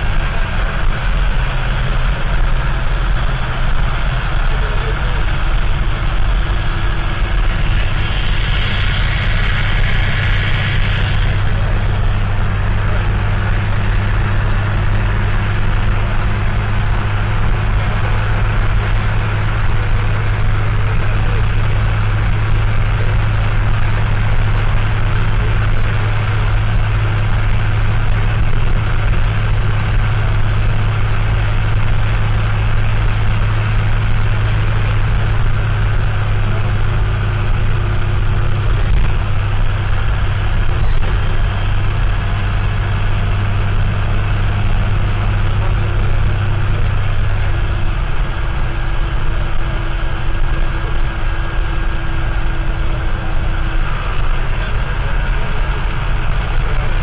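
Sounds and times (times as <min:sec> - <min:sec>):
air-conditioning compressor: 0:00.0 - 0:57.0
bus engine running: 0:00.0 - 0:57.0.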